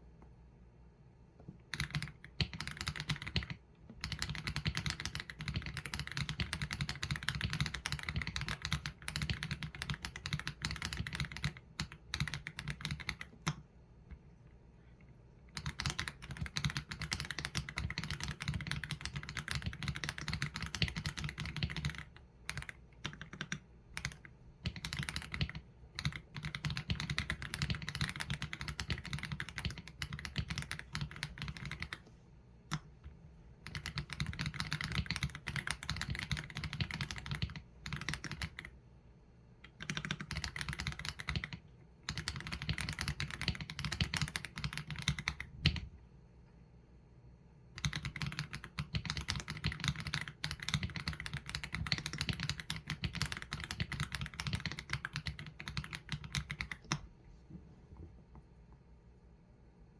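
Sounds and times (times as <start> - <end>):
typing on mechanical keyboard: 1.6 - 13.6, 15.5 - 32.0, 33.6 - 38.8, 39.6 - 45.9, 47.8 - 57.0.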